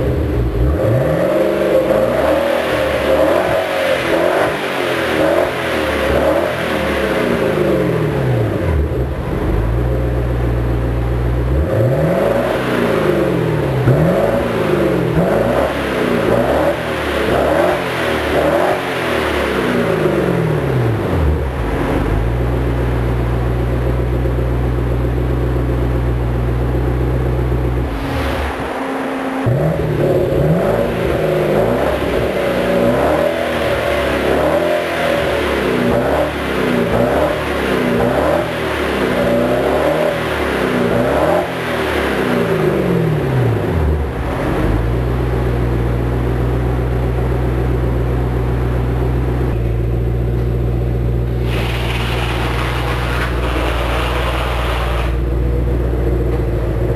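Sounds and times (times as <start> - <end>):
car engine revving and idling: 0.0 - 56.9.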